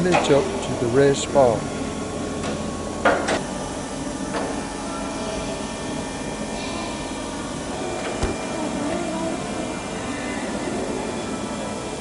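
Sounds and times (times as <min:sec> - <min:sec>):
workshop hum and hiss: 0:00.0 - 0:12.0.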